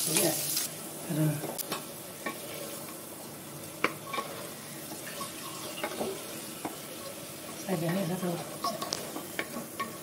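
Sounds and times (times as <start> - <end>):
meat and onions sizzling: 0.0 - 10.0.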